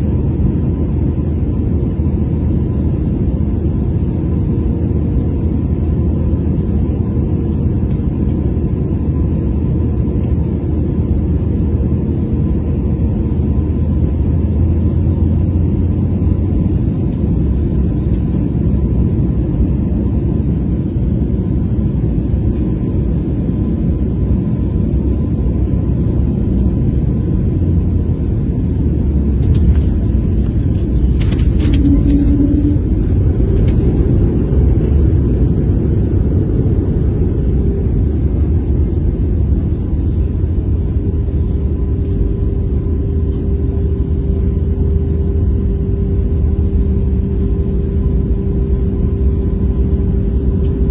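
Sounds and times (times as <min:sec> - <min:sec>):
jet airliner rumble from cabin: 0:00.0 - 0:50.9.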